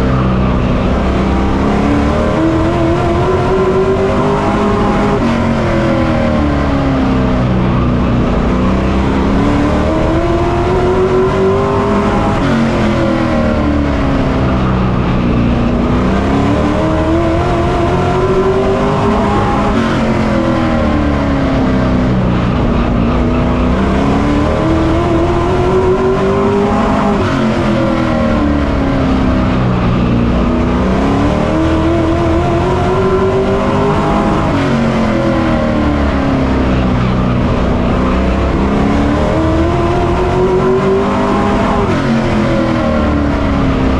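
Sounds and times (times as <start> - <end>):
race truck engine revving: 0.0 - 43.9.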